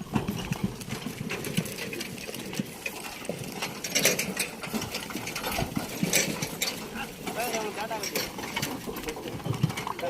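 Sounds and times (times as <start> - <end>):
cart rattling and clattering: 0.0 - 10.0.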